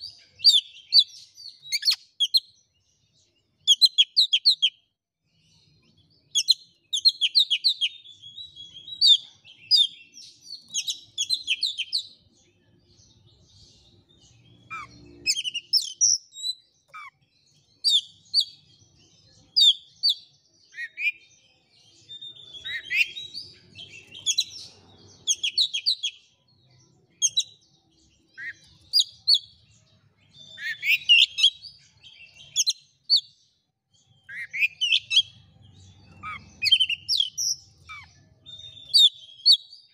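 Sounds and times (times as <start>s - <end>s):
bird singing chirps and whistles: 0.0s - 2.9s, 3.6s - 4.9s, 5.8s - 33.4s, 34.0s - 39.9s.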